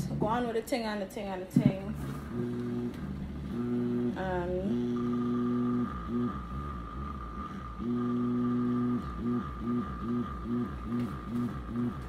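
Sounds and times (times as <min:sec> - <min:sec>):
vibrator motor buzzing: 0:00.0 - 0:12.0.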